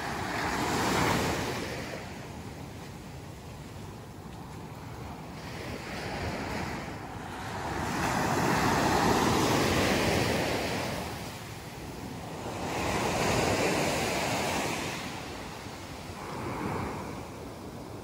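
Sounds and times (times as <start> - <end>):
surf washing up beach: 0.0 - 18.0
wind buffeting microphone: 0.0 - 18.0.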